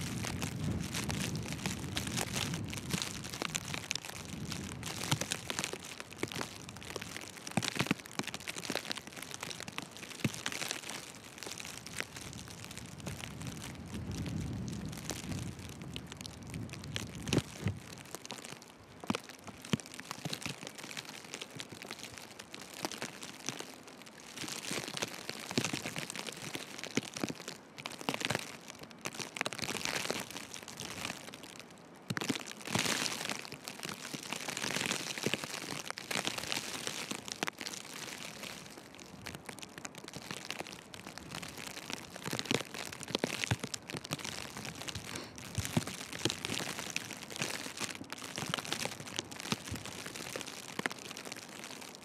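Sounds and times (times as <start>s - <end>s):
small scattered ticks: 0.1s - 52.0s.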